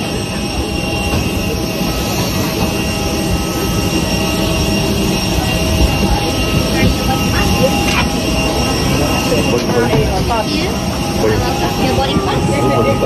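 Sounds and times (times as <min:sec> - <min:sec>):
jet aircraft whine and rumble: 0:00.0 - 0:13.0.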